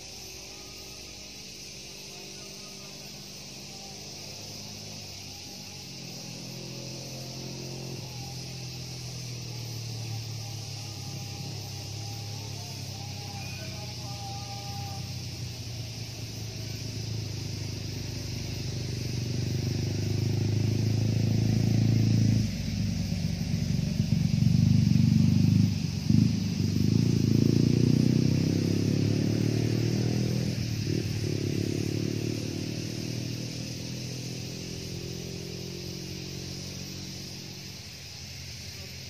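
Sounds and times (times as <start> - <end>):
engine passing close by: 0.0 - 39.0.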